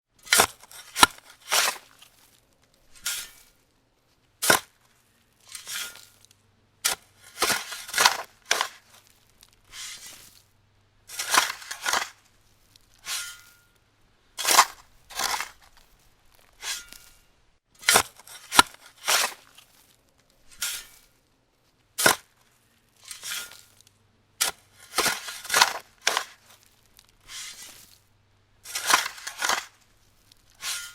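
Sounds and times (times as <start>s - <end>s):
shovel scraping into dirt: 0.2s - 3.6s, 4.4s - 10.4s, 11.1s - 13.8s, 14.4s - 21.2s, 22.0s - 28.0s, 28.6s - 30.9s.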